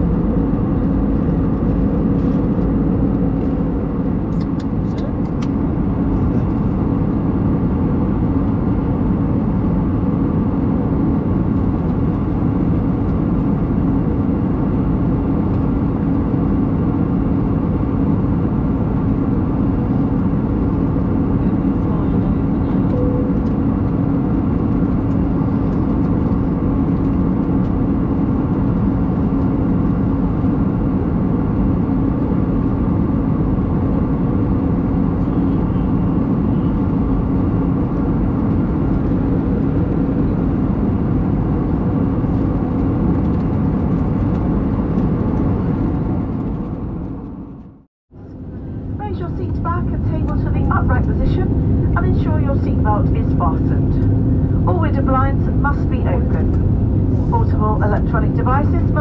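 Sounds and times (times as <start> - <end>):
airflow and jet engine rush: 0.0 - 59.0
low cabin hum: 0.0 - 59.0.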